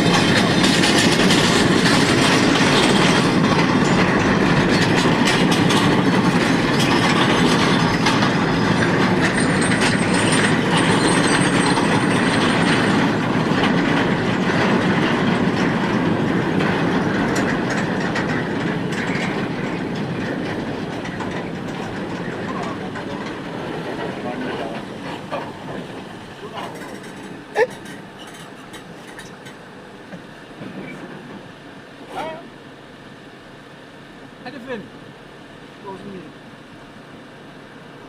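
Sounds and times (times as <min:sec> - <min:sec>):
train wagons rolling on rails: 0:00.0 - 0:38.0.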